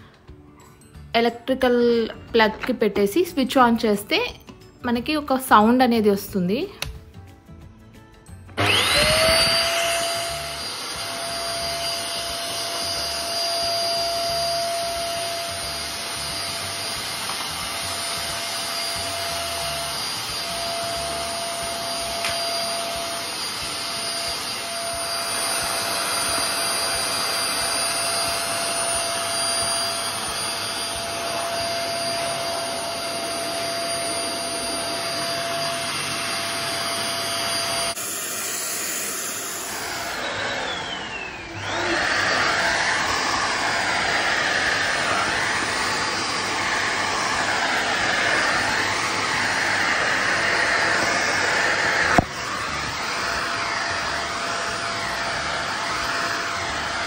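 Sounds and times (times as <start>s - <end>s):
vacuum cleaner running: 8.5s - 57.0s.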